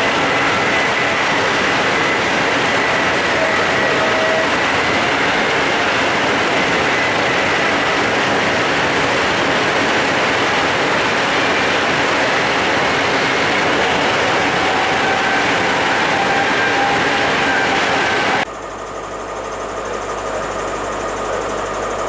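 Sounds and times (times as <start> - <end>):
train wheels rolling on rails: 0.0 - 18.5.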